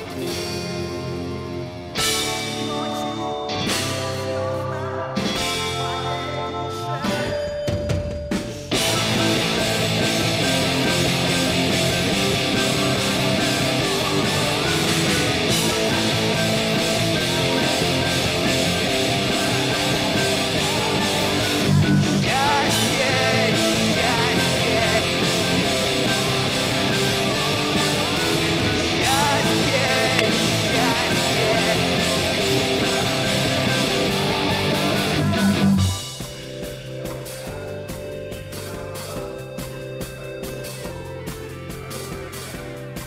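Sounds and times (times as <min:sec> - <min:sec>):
rock music with electric guitar: 0:00.0 - 0:43.0.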